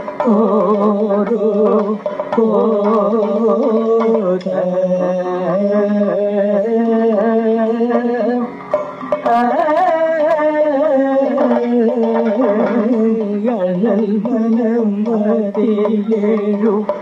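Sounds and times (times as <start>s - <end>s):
man singing ornamented melody: 0.0s - 8.6s, 9.2s - 17.0s.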